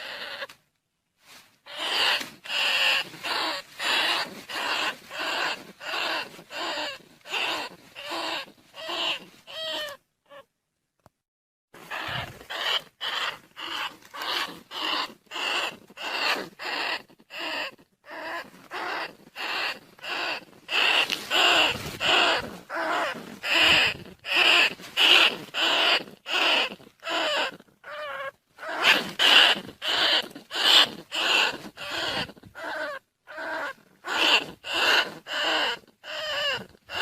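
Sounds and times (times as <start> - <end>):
rapid squeaking rat calls: 0.0 - 0.5, 1.6 - 10.5, 11.8 - 37.0.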